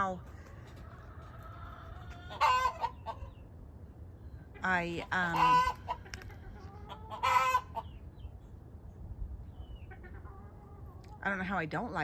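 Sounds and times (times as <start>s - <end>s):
chickens clucking: 0.0s - 11.6s.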